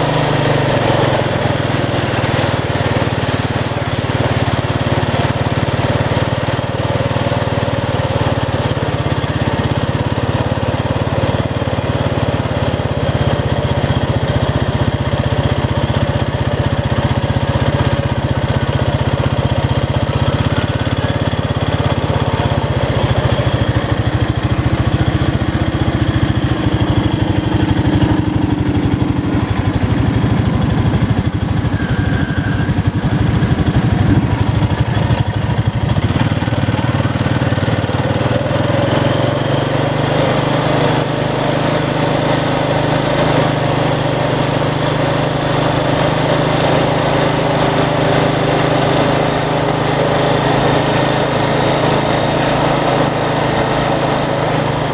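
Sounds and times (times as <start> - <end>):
quad bike engine running: 0.0 - 54.9.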